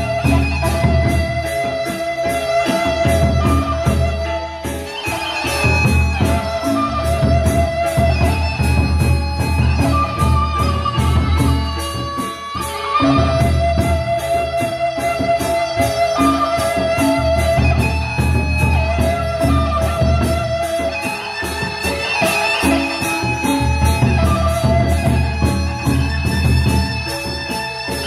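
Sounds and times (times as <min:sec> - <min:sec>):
barrel drums beating: 0:00.0 - 0:28.0.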